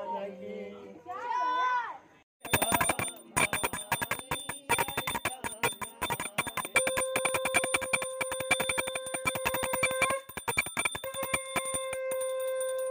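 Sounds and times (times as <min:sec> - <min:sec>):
bell rung rapidly: 0:02.4 - 0:12.9
long steady pitched tone: 0:02.4 - 0:12.9.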